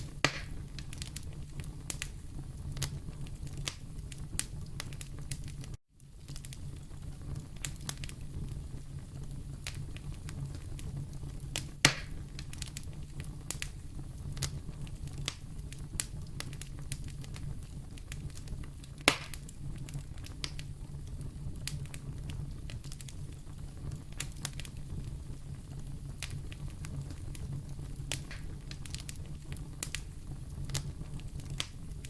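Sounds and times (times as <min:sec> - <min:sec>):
sharp fire pops: 0:00.0 - 0:32.0
wood fire burning: 0:00.0 - 0:32.0.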